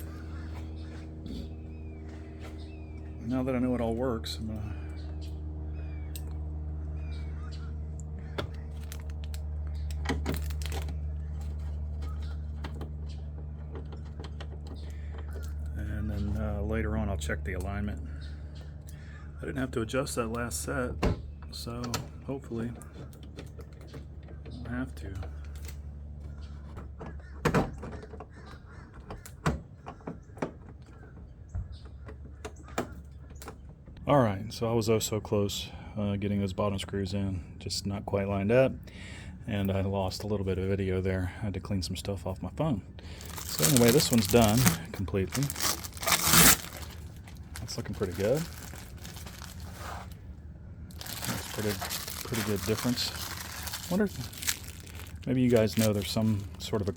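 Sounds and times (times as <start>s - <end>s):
steady low hum: 0.0s - 27.9s, 31.3s - 56.9s.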